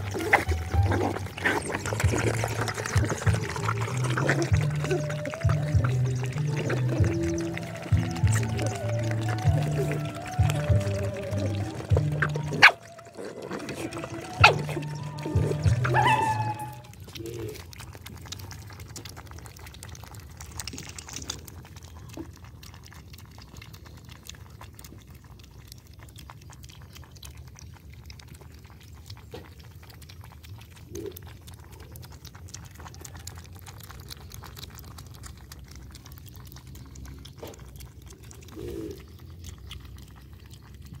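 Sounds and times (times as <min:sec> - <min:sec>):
puppies lapping milk from bowl: 0:00.0 - 0:41.0.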